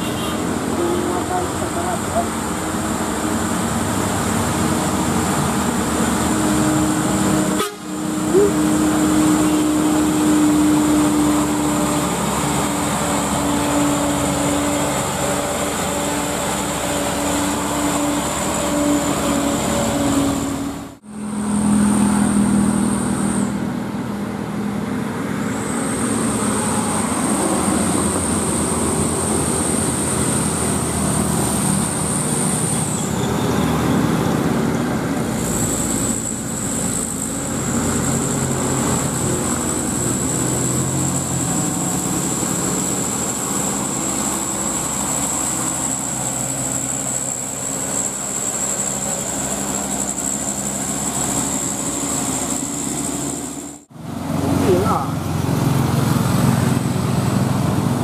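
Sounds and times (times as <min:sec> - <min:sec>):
diesel trucks climbing: 0:00.0 - 0:58.0.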